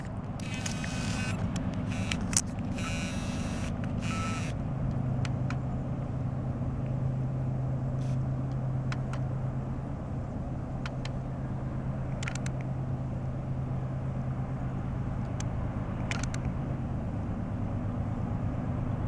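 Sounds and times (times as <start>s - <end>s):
diesel locomotive drone: 0.0s - 19.0s.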